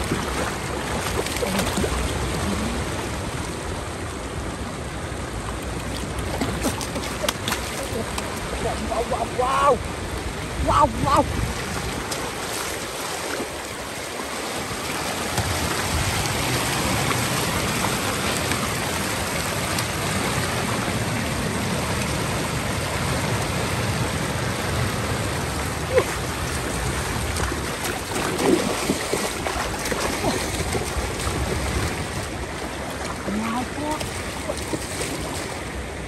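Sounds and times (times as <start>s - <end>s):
water rushing: 0.0s - 36.0s.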